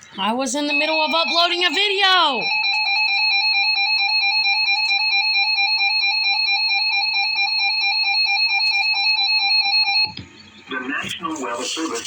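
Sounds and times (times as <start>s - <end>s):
two-tone alarm: 0.2s - 10.3s.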